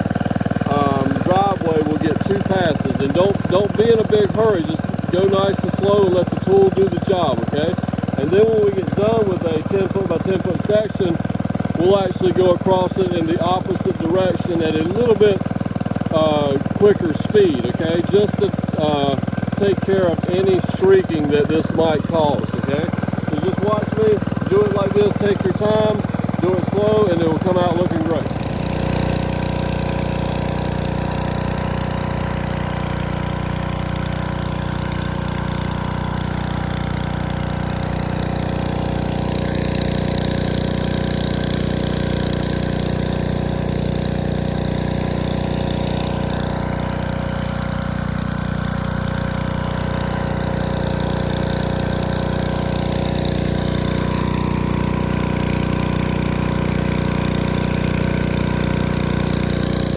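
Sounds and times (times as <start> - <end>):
high-pressure water spraying on concrete: 0.0 - 59.9
pressure washer engine running: 0.0 - 59.9.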